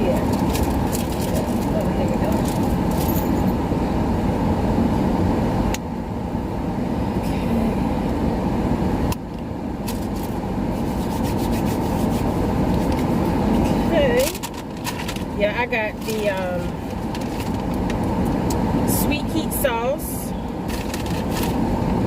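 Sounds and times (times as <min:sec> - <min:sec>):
air conditioning blower rushing air: 0:00.0 - 0:22.0.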